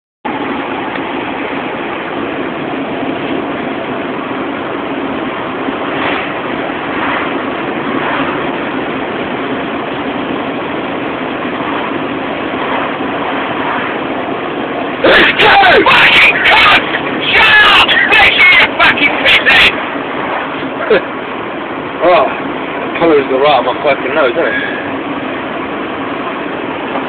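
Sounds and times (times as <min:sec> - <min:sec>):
road noise: 0:00.2 - 0:27.0
car engine running: 0:00.3 - 0:27.0.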